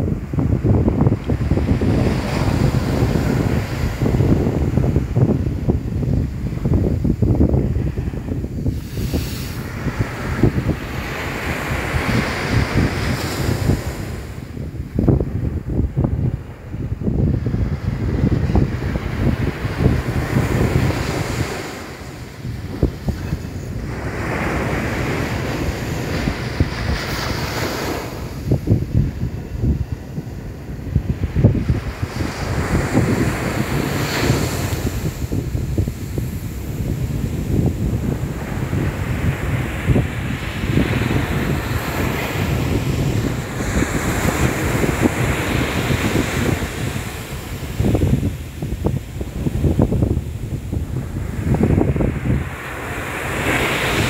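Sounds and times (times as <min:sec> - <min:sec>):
waves washing up a beach: 0:00.0 - 0:54.0
wind buffeting microphone: 0:00.0 - 0:54.0.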